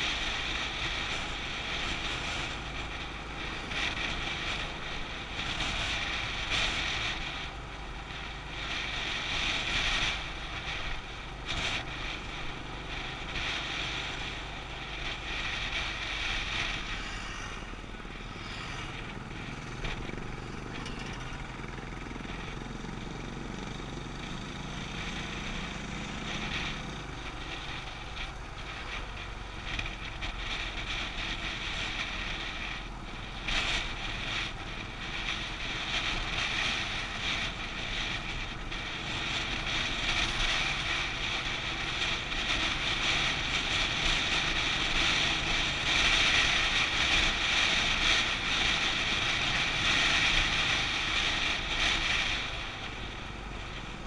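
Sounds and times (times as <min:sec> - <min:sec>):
motorcycle engine: 0:00.0 - 0:54.0
wind rushing over microphone: 0:00.0 - 0:54.0.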